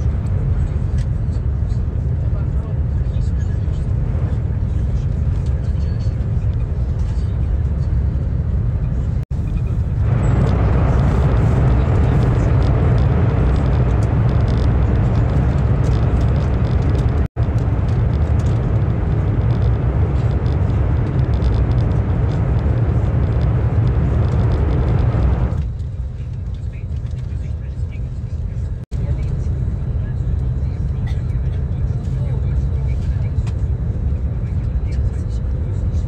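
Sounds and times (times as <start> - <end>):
train rumbling inside carriage: 0.0 - 36.0.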